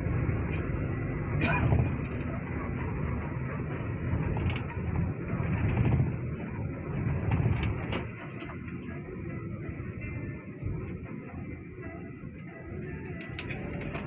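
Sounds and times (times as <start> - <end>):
bus engine and tyres rumbling: 0.0 - 14.0.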